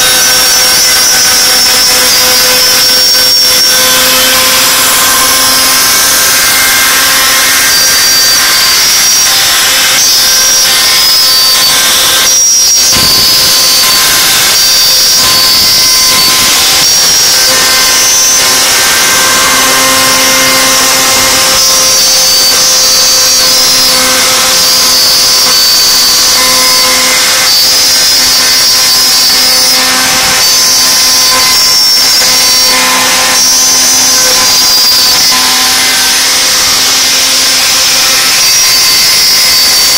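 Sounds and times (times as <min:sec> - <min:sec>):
router cutting wood: 0:00.0 - 0:39.9
router spindle high-pitched whine: 0:00.0 - 0:39.9.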